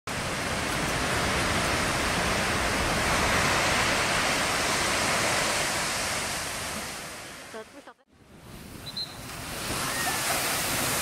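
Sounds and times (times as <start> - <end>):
ocean surf breaking: 0.1 - 11.0.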